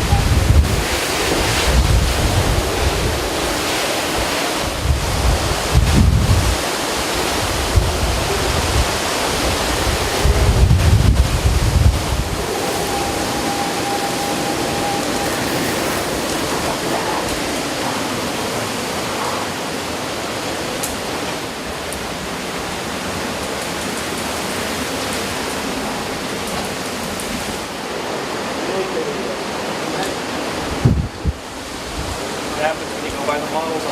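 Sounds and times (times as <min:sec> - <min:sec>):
heavy rain: 0:00.0 - 0:33.9
wind: 0:00.0 - 0:33.9.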